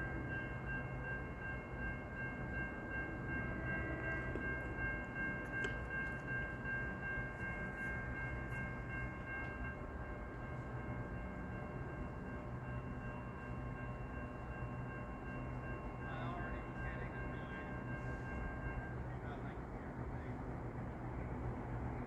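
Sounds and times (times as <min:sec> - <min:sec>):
distant train rumble: 0:00.0 - 0:22.0.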